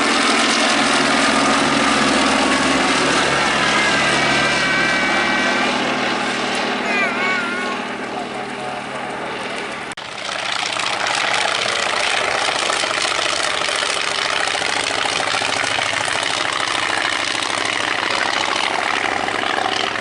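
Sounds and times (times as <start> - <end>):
aircraft piston engine running: 0.0 - 20.0.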